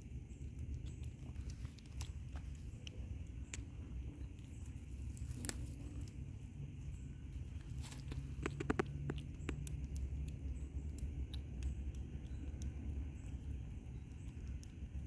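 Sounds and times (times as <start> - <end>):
cats crunching dry kibble: 0.0 - 15.0
low steady rumble: 0.0 - 15.0.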